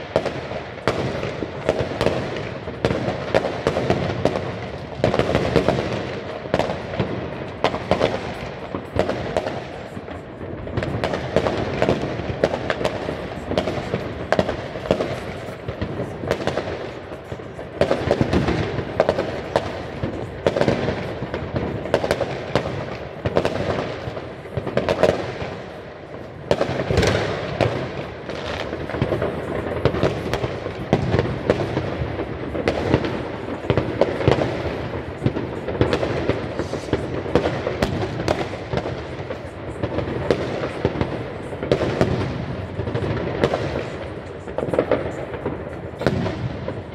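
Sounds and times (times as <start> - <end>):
fireworks crackling and popping: 0.0 - 46.9
loud firework booms: 0.0 - 46.9.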